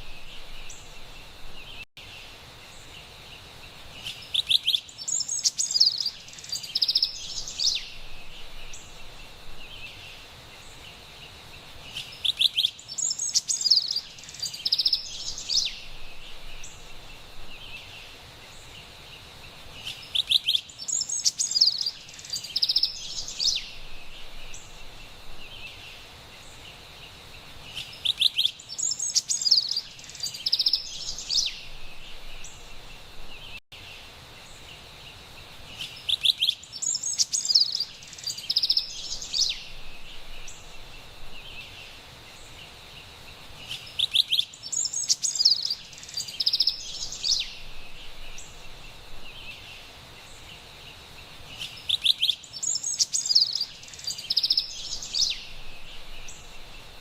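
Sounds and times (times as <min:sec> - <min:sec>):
faint high hiss: 0:00.0 - 0:57.0
wren singing trills: 0:04.0 - 0:10.8, 0:11.8 - 0:18.7, 0:19.8 - 0:26.6, 0:27.6 - 0:33.6, 0:35.7 - 0:42.8, 0:43.6 - 0:57.0.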